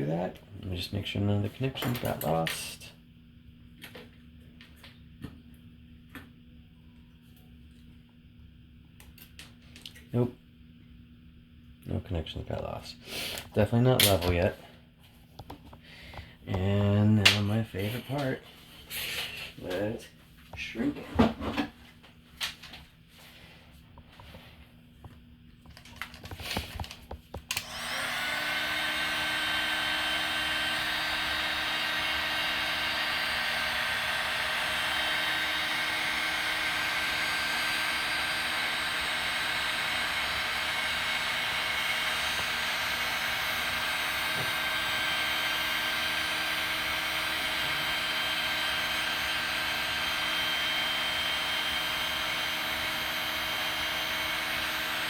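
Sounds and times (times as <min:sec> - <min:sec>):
heat gun fan whine: 0:00.0 - 0:55.0.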